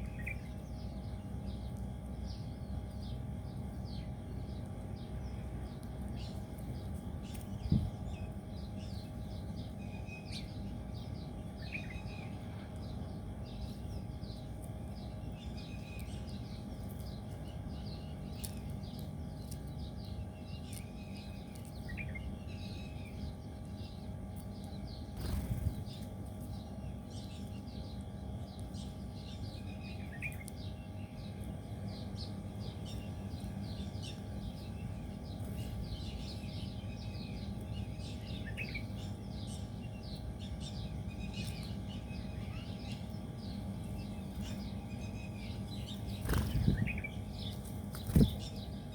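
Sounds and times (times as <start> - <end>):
birds chirping: 0.0 - 48.9
low background hum: 0.0 - 48.9.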